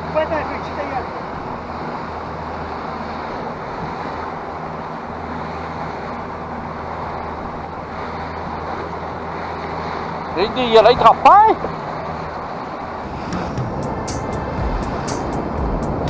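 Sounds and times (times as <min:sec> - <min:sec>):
boat engine droning: 0:00.0 - 0:16.0
water churning: 0:00.0 - 0:16.0.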